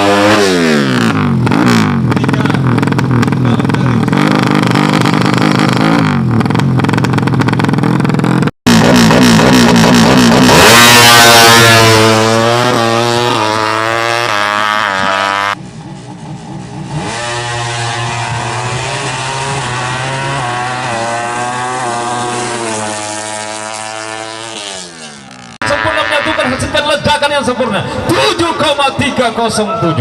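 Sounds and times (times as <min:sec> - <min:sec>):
motorbike engine shifting through gears: 0:00.0 - 0:25.6.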